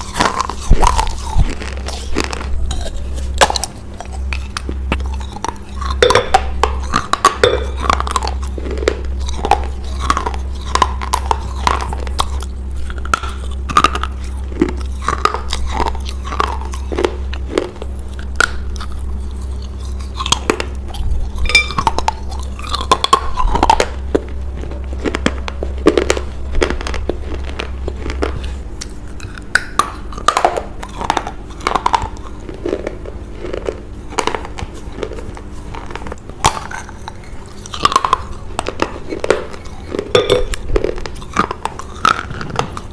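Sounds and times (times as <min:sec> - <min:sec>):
crunchy chewing of baked clay: 0:00.0 - 0:42.9.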